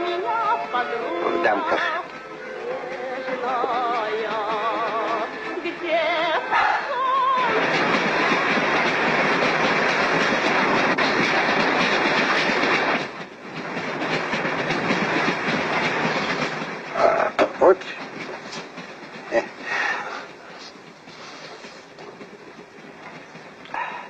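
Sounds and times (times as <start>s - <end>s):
train rattling on rails: 0.0s - 24.0s.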